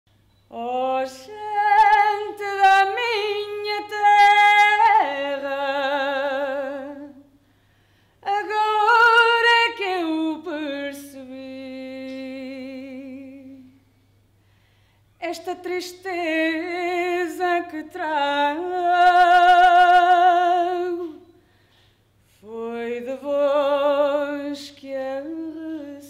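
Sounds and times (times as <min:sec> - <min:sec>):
woman singing unaccompanied: 0:00.5 - 0:07.3, 0:08.2 - 0:13.8, 0:15.2 - 0:21.4, 0:22.4 - 0:26.0.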